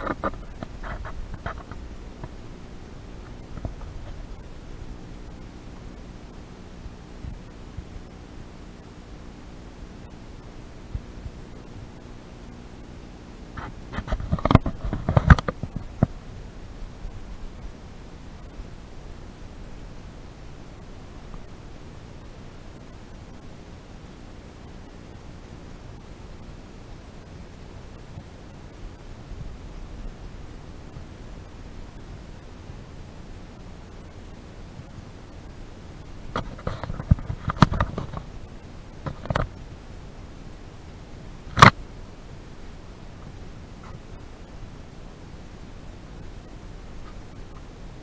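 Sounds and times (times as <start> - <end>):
low uneven rumble: 0.0 - 48.0
microphone hiss: 0.0 - 48.0.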